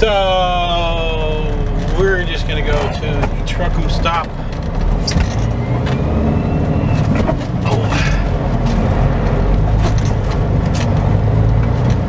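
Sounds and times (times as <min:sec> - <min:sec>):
diesel engine and road rumble: 0:00.0 - 0:12.0.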